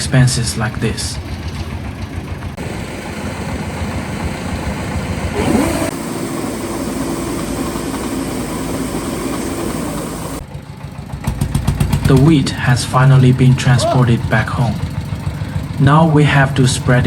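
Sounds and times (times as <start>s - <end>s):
farm vehicle engine running: 0.0s - 17.0s.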